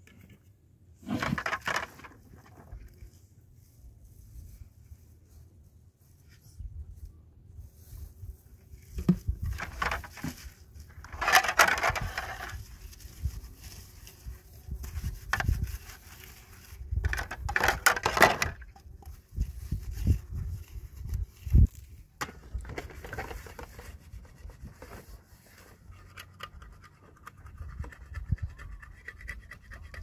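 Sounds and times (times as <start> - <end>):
crunching and rustling handling noise: 0.0 - 26.2.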